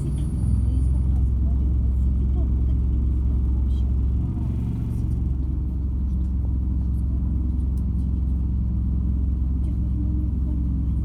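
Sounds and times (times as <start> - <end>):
bus engine rumble from inside: 0.0 - 11.0.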